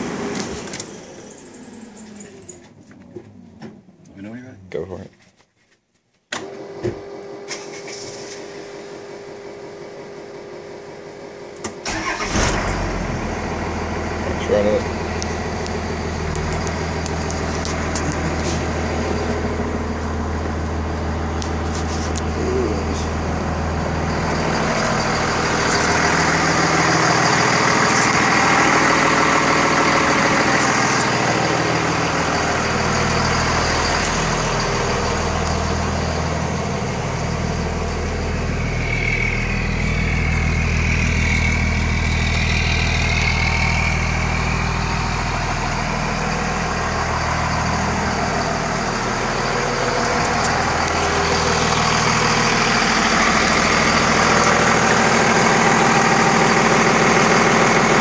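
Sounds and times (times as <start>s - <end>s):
diesel bus engine idling: 0.0s - 4.0s, 7.5s - 58.0s
high engine whine: 0.0s - 4.3s, 6.4s - 58.0s.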